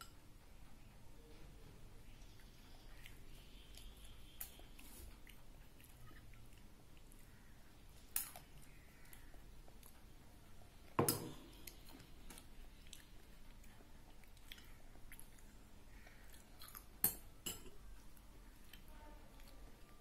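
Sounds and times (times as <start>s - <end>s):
child chewing: 2.0s - 20.0s.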